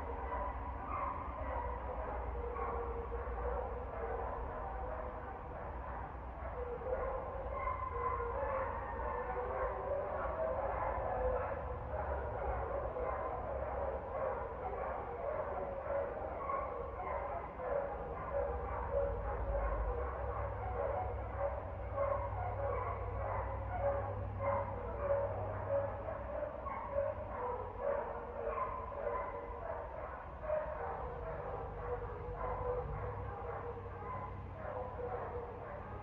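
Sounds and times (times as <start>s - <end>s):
dogs barking: 0.0s - 36.0s.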